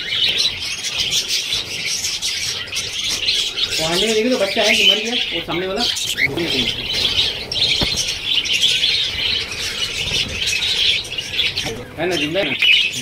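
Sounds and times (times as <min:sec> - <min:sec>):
budgerigars chattering and chirping: 0:00.0 - 0:13.0.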